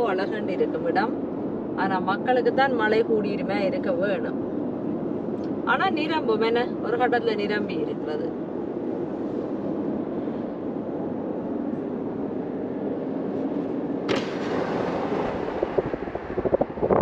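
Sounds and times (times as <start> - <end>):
road and engine noise: 0.0 - 17.0
wind buffeting microphone: 0.0 - 17.0.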